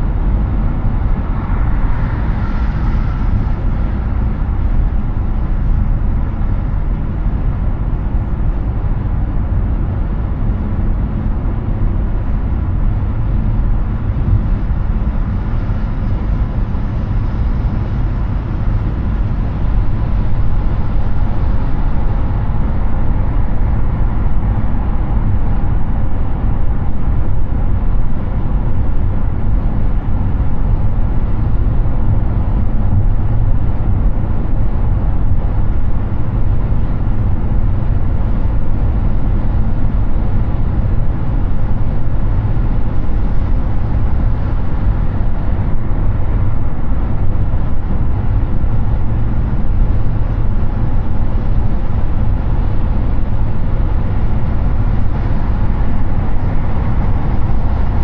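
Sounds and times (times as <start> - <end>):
wind rush: 0.0 - 58.0.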